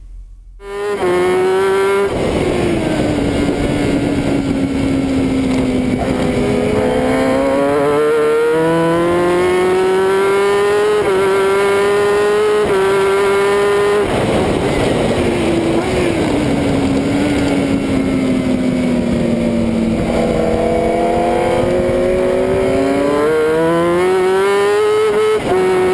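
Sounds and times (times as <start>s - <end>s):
motorcycle engine at high revs: 0.6s - 25.9s
wind rushing: 0.7s - 10.0s, 10.6s - 25.9s.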